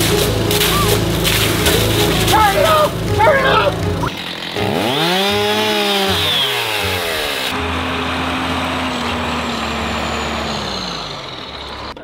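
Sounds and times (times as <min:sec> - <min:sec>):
chainsaw winding down: 0:00.0 - 0:12.0
tractor diesel engine running: 0:00.0 - 0:12.0.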